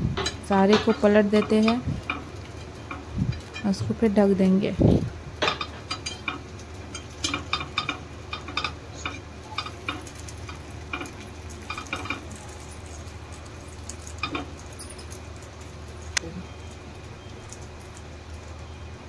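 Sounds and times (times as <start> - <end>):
dumplings sizzling in oil: 0.0 - 19.0
oil crackling: 0.0 - 19.0.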